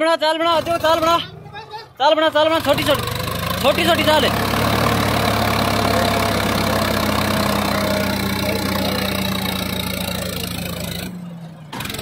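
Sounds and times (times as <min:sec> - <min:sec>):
tractor diesel engine running: 0:00.3 - 0:12.0.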